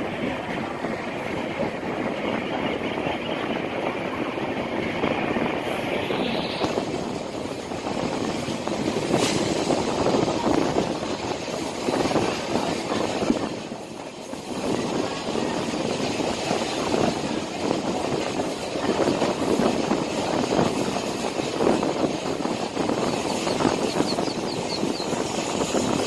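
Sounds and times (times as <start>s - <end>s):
train wheel-on-rail rush: 0.0s - 26.0s.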